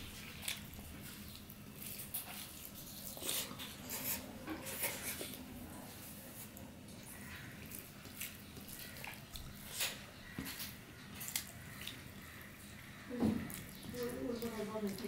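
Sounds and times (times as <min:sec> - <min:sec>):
chewing: 0:00.0 - 0:15.0
fingers mixing rice on a plate: 0:00.0 - 0:15.0.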